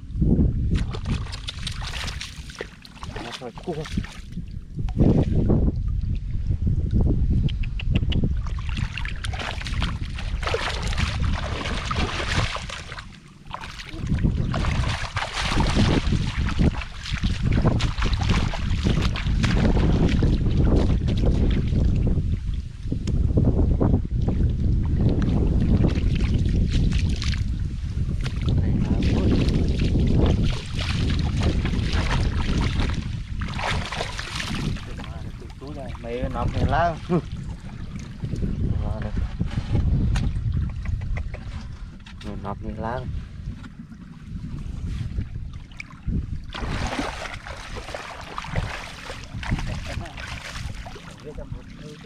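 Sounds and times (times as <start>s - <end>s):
wind rumbling on microphone: 0.0s - 52.0s
water splashing by hand: 0.7s - 6.3s, 6.9s - 22.4s, 24.9s - 42.4s, 44.5s - 52.0s.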